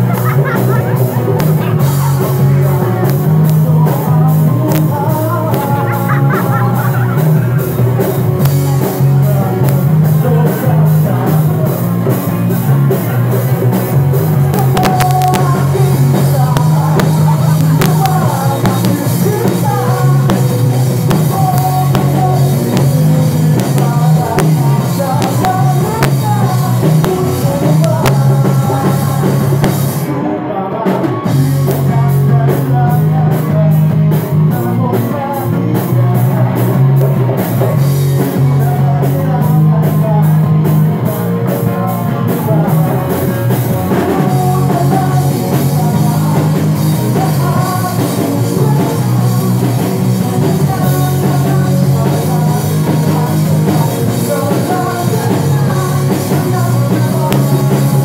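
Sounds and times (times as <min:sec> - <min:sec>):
drums: 0:00.0 - 0:58.0
electric guitars: 0:00.0 - 0:58.0
person singing: 0:00.0 - 0:58.0.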